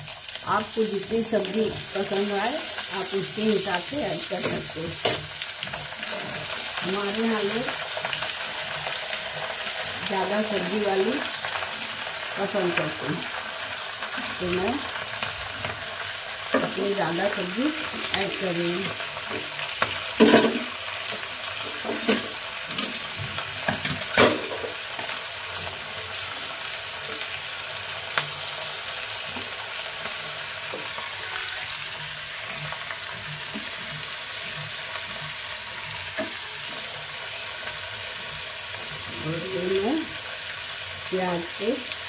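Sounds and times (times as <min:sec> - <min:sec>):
potatoes sizzling in oil: 0:00.0 - 0:42.0.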